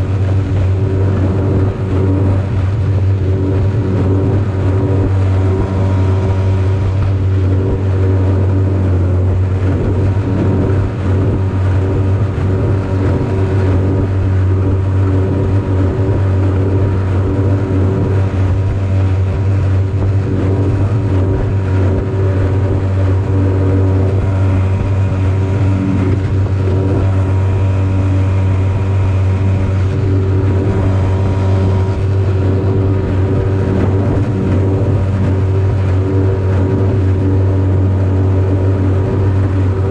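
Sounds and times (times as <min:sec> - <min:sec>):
outboard motor running at full throttle: 0:00.0 - 0:39.9.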